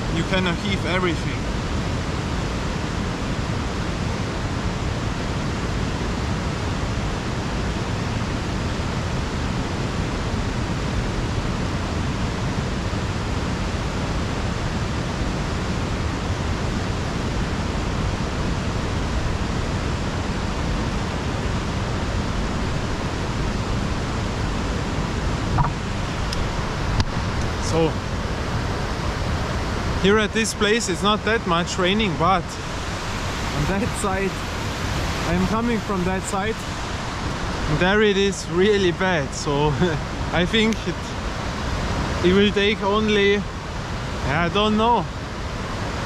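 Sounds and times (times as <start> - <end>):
river rushing: 0.0 - 46.0.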